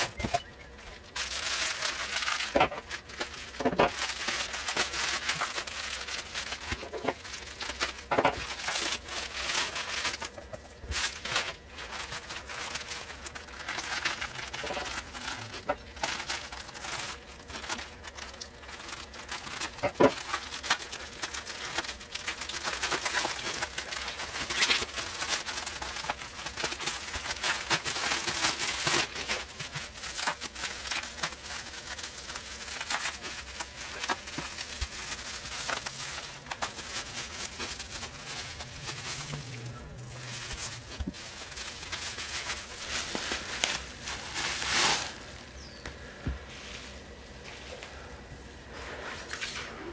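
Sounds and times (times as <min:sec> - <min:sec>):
packaging crinkling: 0:00.0 - 0:46.0
packaging tearing: 0:01.0 - 0:45.5.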